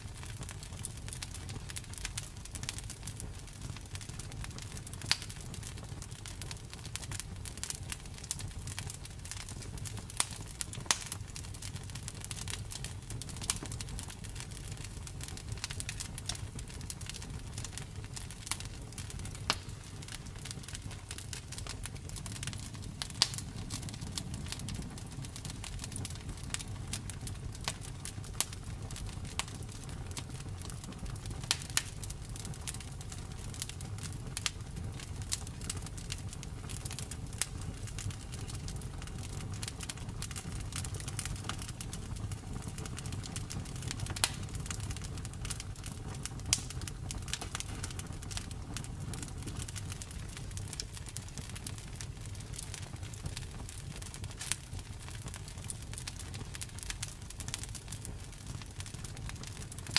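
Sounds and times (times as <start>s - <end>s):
low rumble of flames: 0.0s - 59.9s
wood fire crackling and popping: 0.0s - 59.9s
sharp snaps of burning wood: 0.2s - 59.9s.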